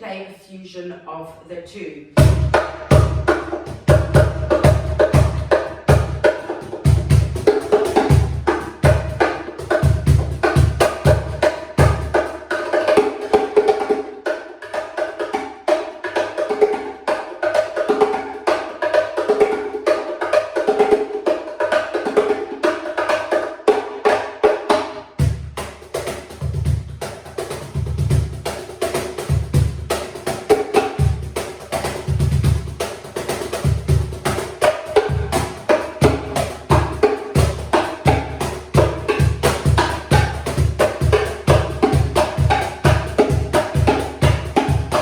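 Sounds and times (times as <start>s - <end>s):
bongo cajon slaps: 2.2s - 45.0s.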